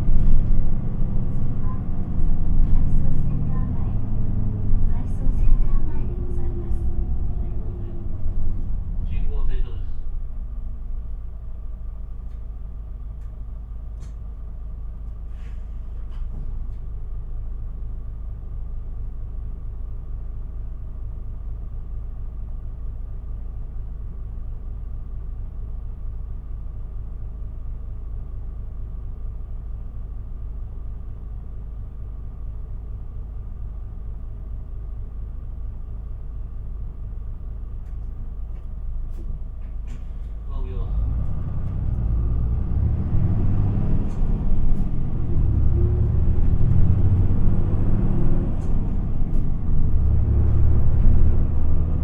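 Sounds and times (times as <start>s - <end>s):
bus engine rumble and hum: 0.0s - 52.0s.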